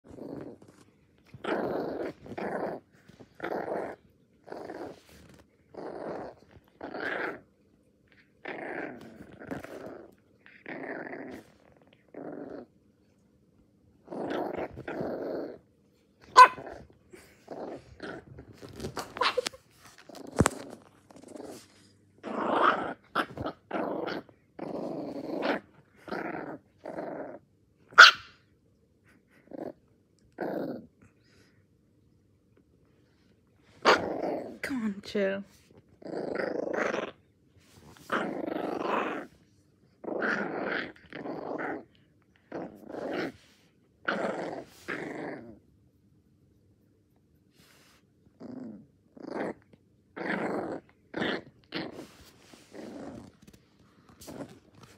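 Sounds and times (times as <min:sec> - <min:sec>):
small dog growling and barking: 0:00.0 - 0:13.2, 0:14.0 - 0:31.6, 0:32.9 - 0:34.7, 0:35.5 - 0:45.7, 0:47.5 - 0:54.9.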